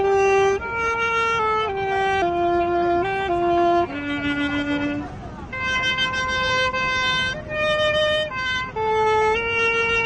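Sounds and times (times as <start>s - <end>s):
saxophone playing slow melody: 0.0s - 10.0s.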